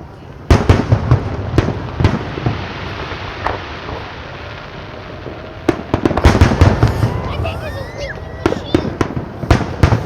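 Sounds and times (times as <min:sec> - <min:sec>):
fireworks booming: 0:00.0 - 0:10.0.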